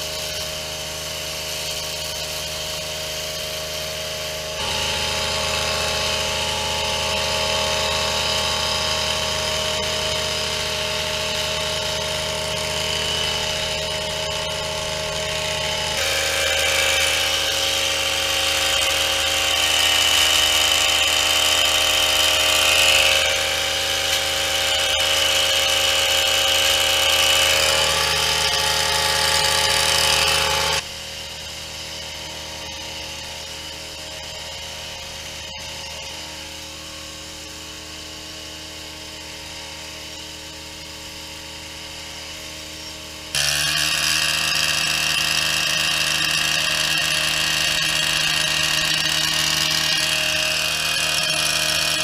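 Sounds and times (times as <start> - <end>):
hedge trimmer running: 0.0 - 52.0.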